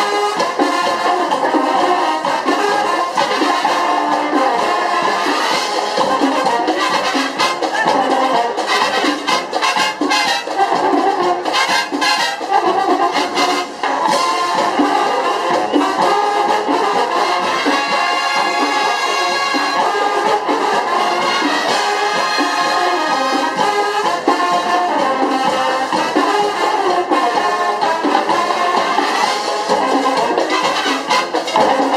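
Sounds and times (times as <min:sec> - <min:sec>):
marching band brass: 0:00.0 - 0:31.9.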